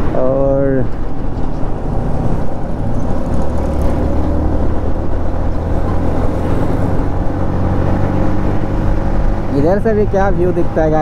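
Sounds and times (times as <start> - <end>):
motorcycle engine hum: 0.0 - 11.0.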